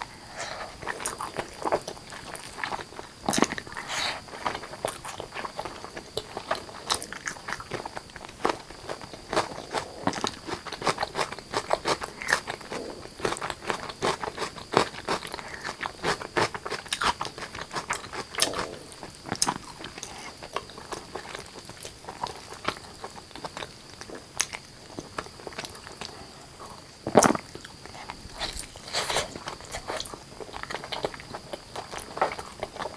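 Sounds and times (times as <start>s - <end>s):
wet chewing and smacking: 0.1s - 32.9s.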